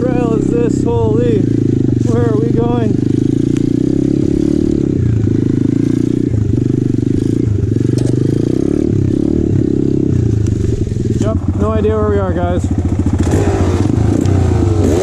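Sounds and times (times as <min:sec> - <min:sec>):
motorcycle engine running under load: 0:00.0 - 0:15.0
motorcycle clattering: 0:02.9 - 0:15.0.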